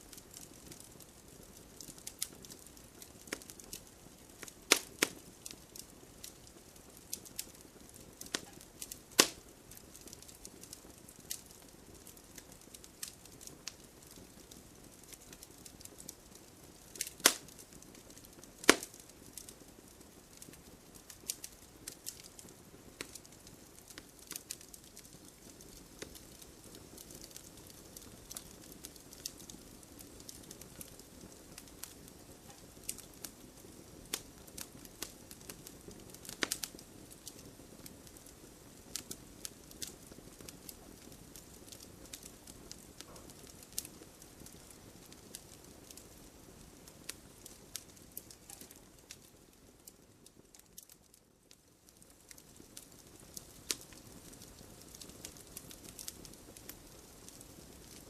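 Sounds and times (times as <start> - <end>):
faint low hiss: 0.0 - 58.0
wood fire crackling: 0.0 - 58.0.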